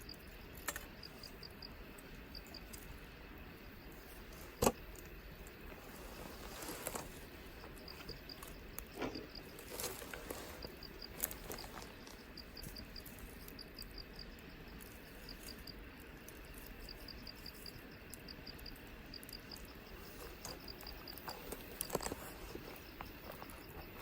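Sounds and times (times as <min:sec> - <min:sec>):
insects chirping in high pulses: 0:00.0 - 0:24.0.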